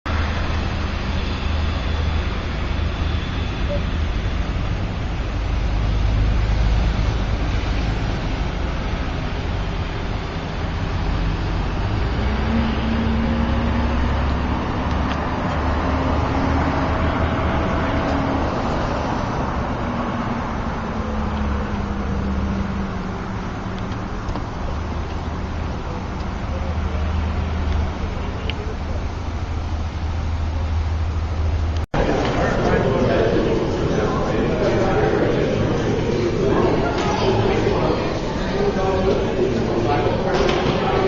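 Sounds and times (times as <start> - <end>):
motor vehicle rumble: 0.0 - 41.0
faint hum: 0.1 - 41.0.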